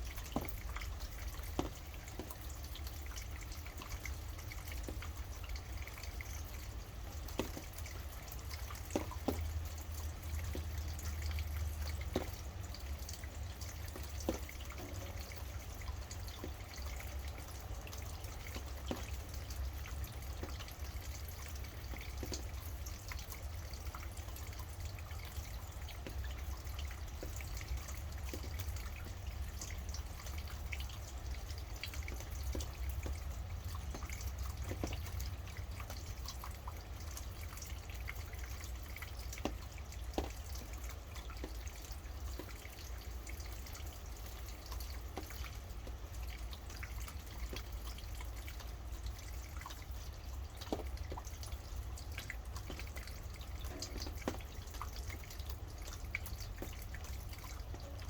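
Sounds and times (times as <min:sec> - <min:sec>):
rain drops dripping: 0:00.0 - 0:58.0.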